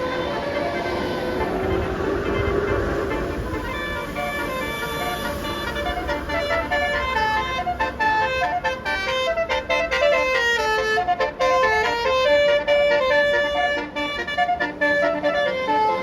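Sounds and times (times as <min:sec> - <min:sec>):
engine and traffic rumble: 0:00.0 - 0:16.0
musical bus horn tune: 0:00.0 - 0:16.0.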